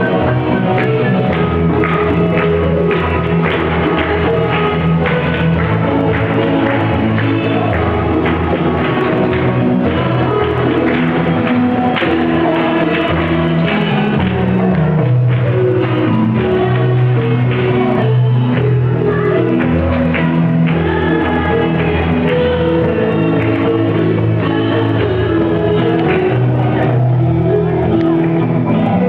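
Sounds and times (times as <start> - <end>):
bass line: 0.0 - 29.0
guitars: 0.0 - 29.0
person singing into a microphone: 0.0 - 29.0.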